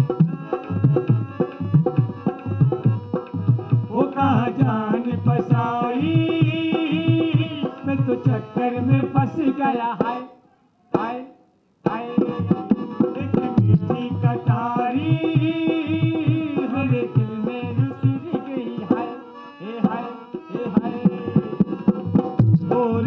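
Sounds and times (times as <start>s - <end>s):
tabla drumming: 0.0s - 10.2s, 11.9s - 23.0s.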